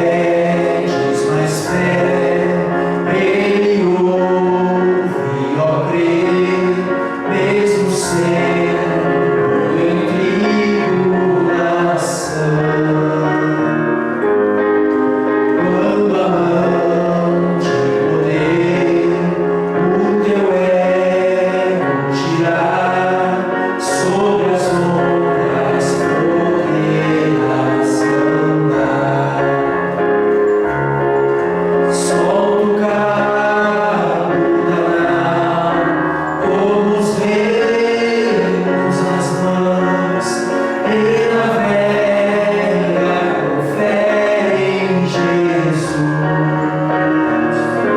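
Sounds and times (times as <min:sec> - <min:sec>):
instrumental accompaniment: 0:00.0 - 0:47.9
voices singing gospel hymn: 0:00.0 - 0:47.9.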